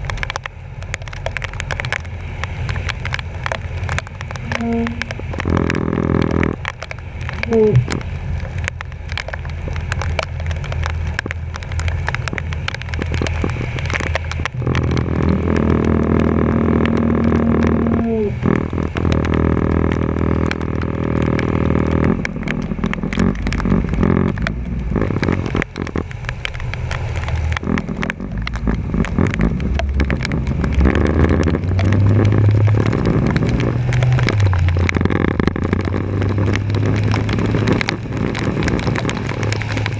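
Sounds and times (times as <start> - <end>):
rain crackling: 0.0 - 39.9
truck engine running: 0.0 - 39.9
water splashing: 0.0 - 39.9.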